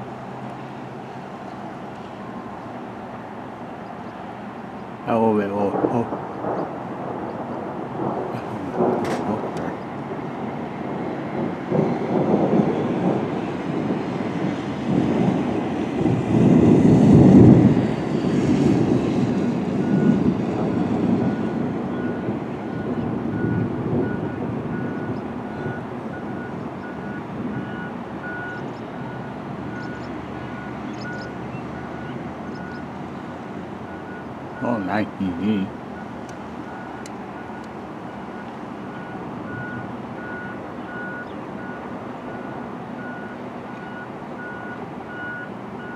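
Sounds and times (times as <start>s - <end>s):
thunder rumbling: 4.3s - 43.2s.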